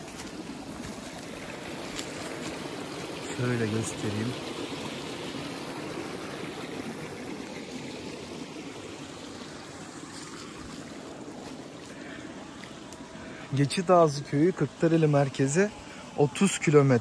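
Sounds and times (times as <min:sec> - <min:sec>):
creek babbling: 0:00.0 - 0:17.0.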